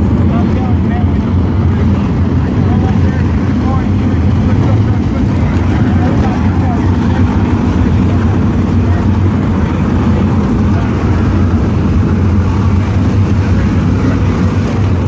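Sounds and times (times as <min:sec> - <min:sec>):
sprint car engines rumbling: 0:00.0 - 0:15.0.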